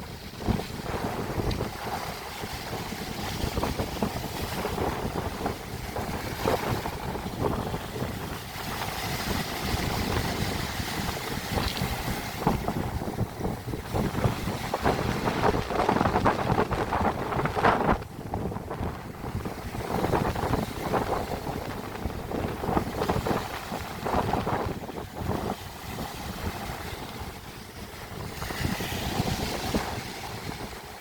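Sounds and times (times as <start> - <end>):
sea water splashing: 0.0 - 31.0
wind buffeting microphone: 0.0 - 31.0.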